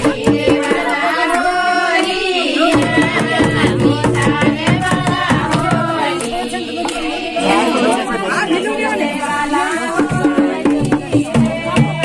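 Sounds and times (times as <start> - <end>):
hand drum beat: 0.0 - 12.0.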